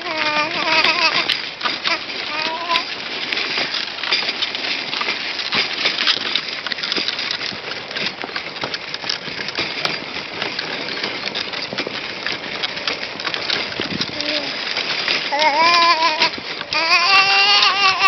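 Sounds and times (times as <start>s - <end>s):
pram wheels crunching on snow: 0.0s - 18.0s.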